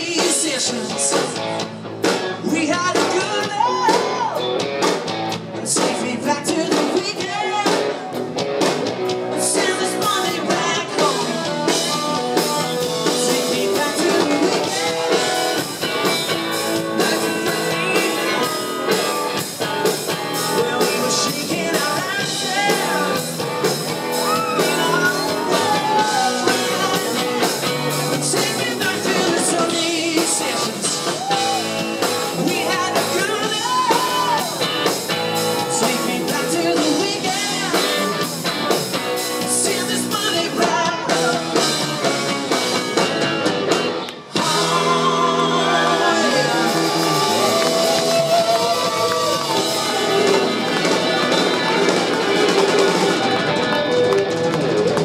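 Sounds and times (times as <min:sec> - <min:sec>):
male lead vocal: 0:00.0 - 0:04.6, 0:05.5 - 0:08.3, 0:09.2 - 0:42.8, 0:44.2 - 0:53.8
bass guitar: 0:00.0 - 0:55.0
drums: 0:00.0 - 0:55.0
electric guitar: 0:00.0 - 0:55.0.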